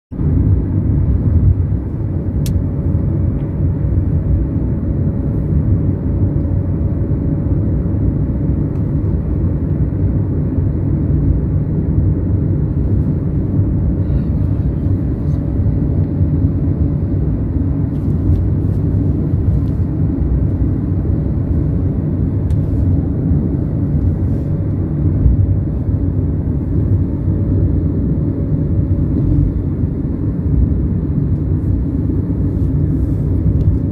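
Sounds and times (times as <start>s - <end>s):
train low rumble: 0.1s - 33.9s.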